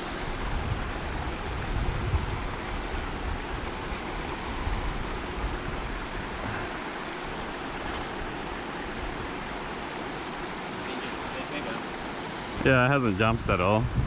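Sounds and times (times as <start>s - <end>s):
wind buffeting microphone: 0.0s - 10.6s, 12.0s - 14.0s
rushing water: 0.0s - 14.0s.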